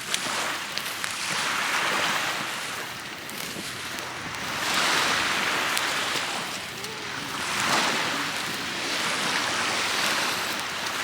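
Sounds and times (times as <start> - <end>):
small waves washing on beach: 0.0 - 11.0.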